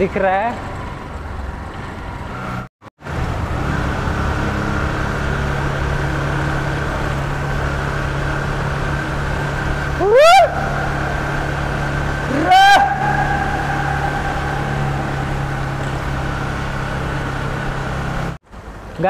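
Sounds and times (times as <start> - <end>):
motorcycle engine running: 0.6 - 18.8.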